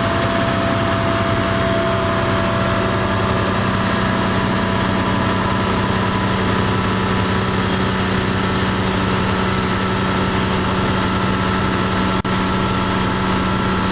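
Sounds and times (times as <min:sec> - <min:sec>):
train engine hum and whine: 0:00.0 - 0:13.9.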